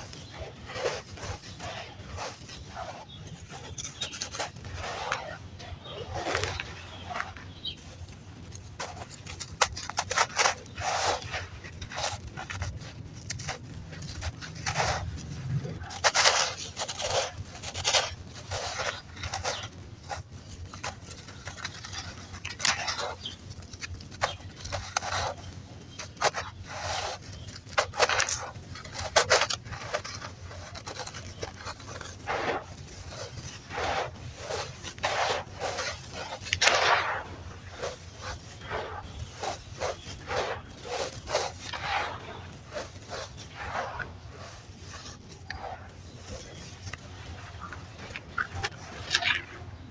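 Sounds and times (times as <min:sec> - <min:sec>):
sand crunching: 0:00.0 - 0:49.9.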